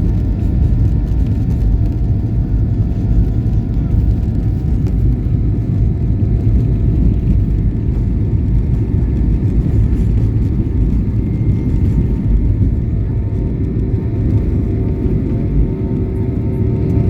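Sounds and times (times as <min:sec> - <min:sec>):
faint whining tones: 0:00.0 - 0:17.0
vehicle rumbling: 0:00.0 - 0:17.0.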